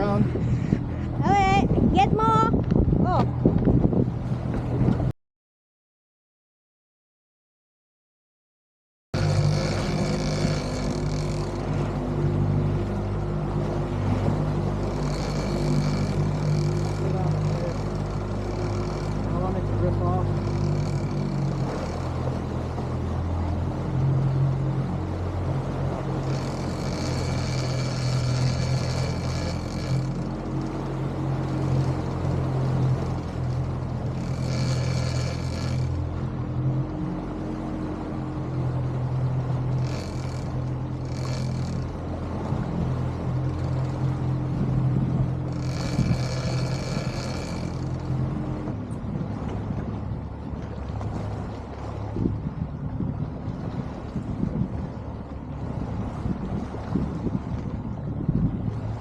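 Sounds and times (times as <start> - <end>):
boat motor running: 0.0 - 5.1, 9.1 - 59.0
higher whir: 9.2 - 59.0.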